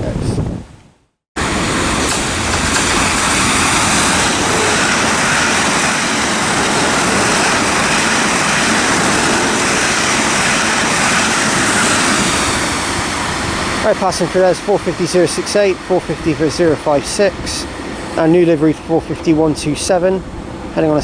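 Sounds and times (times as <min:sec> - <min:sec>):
train passing: 0:01.4 - 0:21.0.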